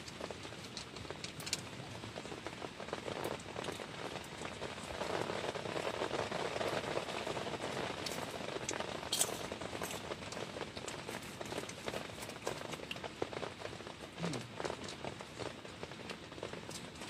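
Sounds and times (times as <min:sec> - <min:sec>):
heavy rain pattering: 0:00.0 - 0:17.0.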